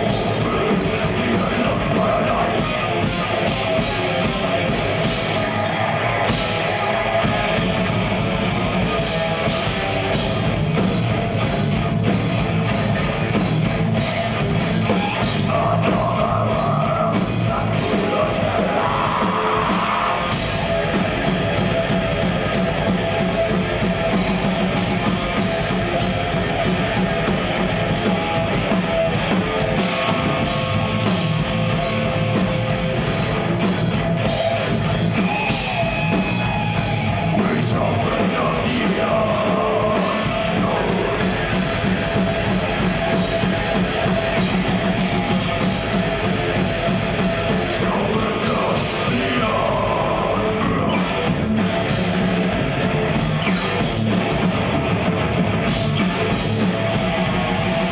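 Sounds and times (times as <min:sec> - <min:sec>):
metal band playing live: 0:00.0 - 0:57.9.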